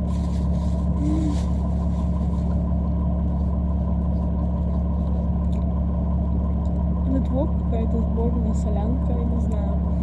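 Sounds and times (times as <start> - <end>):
vehicle cabin drone: 0.0 - 10.0.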